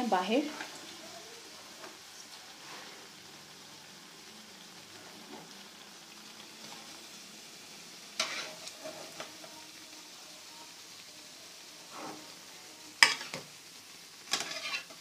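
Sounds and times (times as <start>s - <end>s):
frying hiss in a pan: 0.0s - 15.0s.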